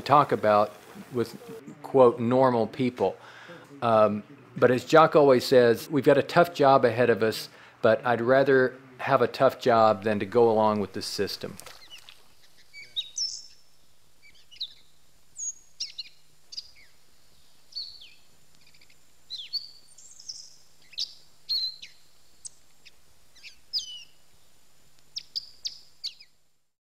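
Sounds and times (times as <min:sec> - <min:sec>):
birds chirping: 0:00.0 - 0:06.7, 0:07.3 - 0:26.4
faint low hum: 0:00.0 - 0:26.8.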